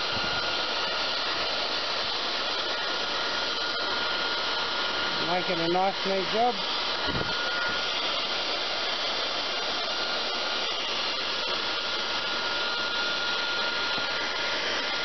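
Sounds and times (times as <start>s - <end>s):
heat gun blowing with whine: 0.0s - 15.0s.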